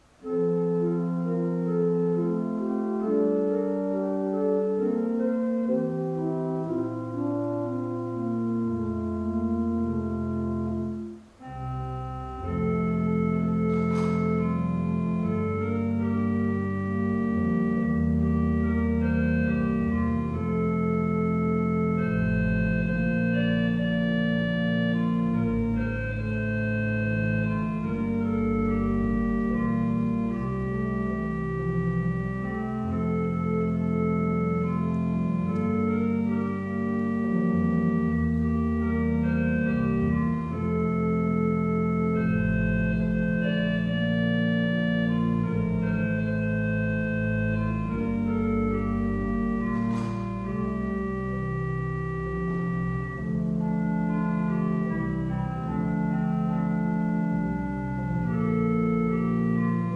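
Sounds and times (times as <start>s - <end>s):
organ chords: 0.0s - 59.9s.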